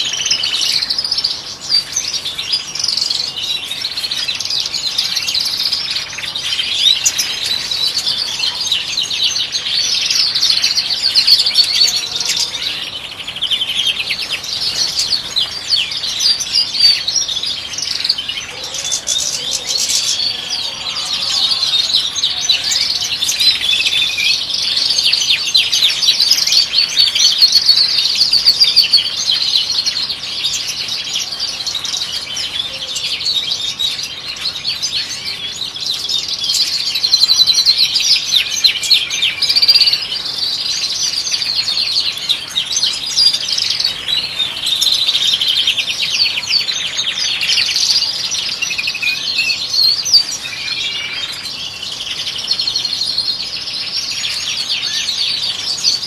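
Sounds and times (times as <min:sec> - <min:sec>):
finches twittering and trilling: 0:00.0 - 0:56.0.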